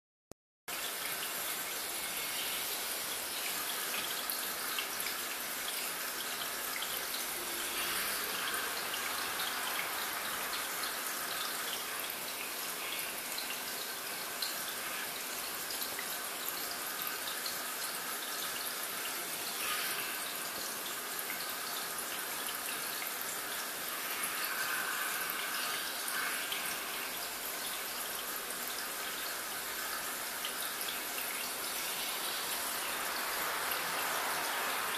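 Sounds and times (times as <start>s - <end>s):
aquarium water trickling and bubbling: 0.7s - 34.9s.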